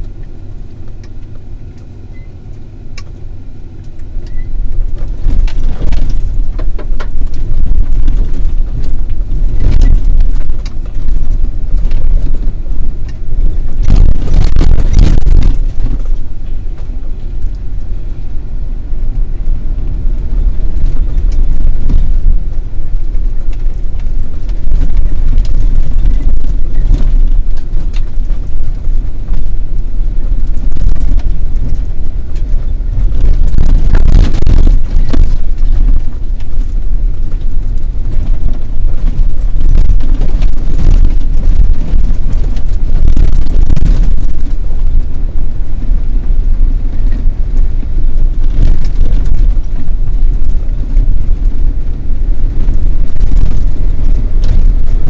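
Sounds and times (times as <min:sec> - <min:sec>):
off-road vehicle rumbling: 0:00.0 - 0:55.0.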